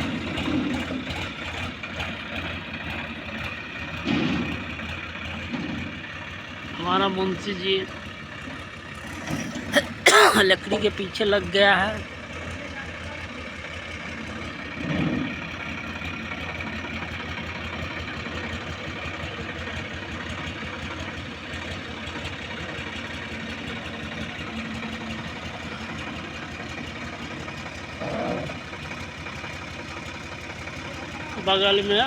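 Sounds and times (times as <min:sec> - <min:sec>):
tractor diesel engine idling: 0:00.0 - 0:09.4, 0:10.5 - 0:32.0.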